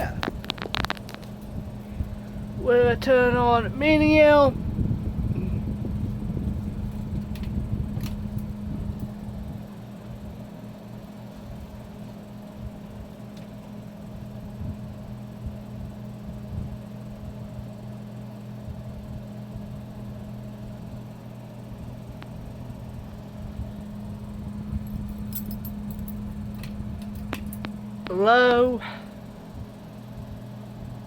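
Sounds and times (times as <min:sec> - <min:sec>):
ceiling fan motor hum: 0:00.0 - 0:31.0.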